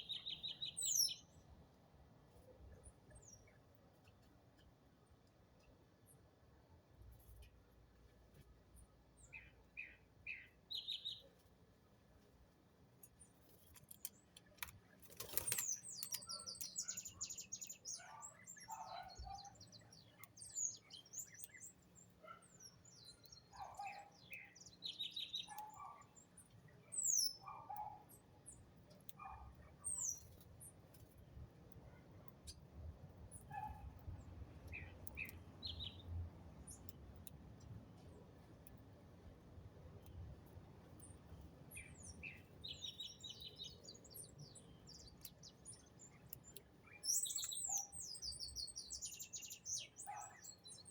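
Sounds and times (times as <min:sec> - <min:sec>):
small birds chirping: 0:00.0 - 0:01.5, 0:09.2 - 0:11.6, 0:13.0 - 0:38.9, 0:39.7 - 0:50.9.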